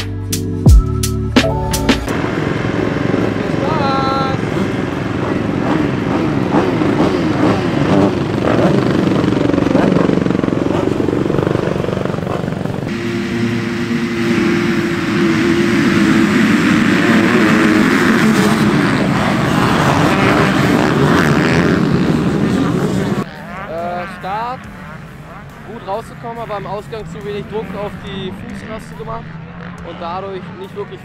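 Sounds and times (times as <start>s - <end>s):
motocross engines revving: 2.1s - 31.0s.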